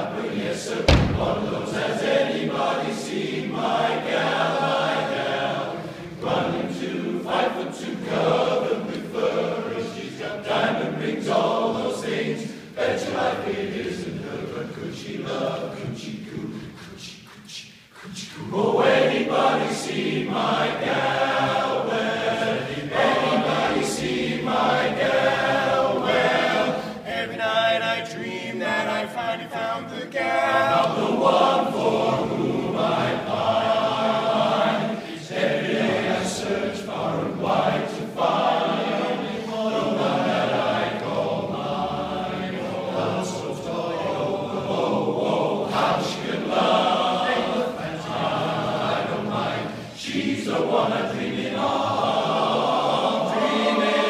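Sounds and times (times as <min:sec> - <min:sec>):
male voice choir singing: 0:00.0 - 0:54.0.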